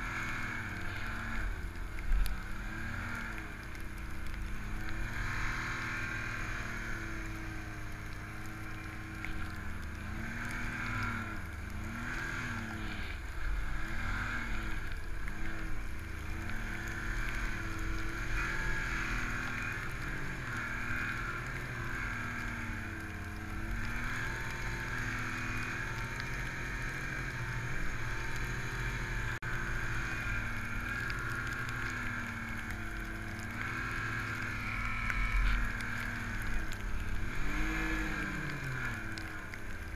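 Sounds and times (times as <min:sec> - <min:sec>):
snowmobile engine revving: 0:00.0 - 0:39.9
steady rushing hiss: 0:00.0 - 0:39.9.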